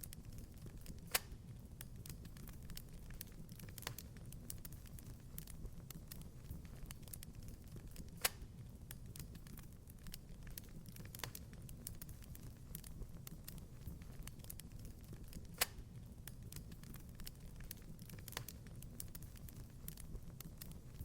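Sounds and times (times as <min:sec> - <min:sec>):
wood fire crackling: 0:00.0 - 0:21.0
sharp pops of burning wood: 0:00.9 - 0:01.4, 0:02.0 - 0:21.0.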